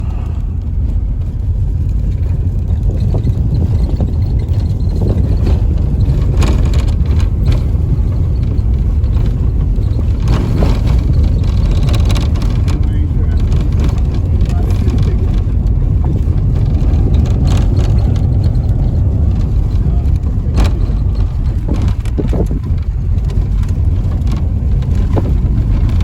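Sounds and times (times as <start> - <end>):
vehicle low rumble: 0.0 - 26.0.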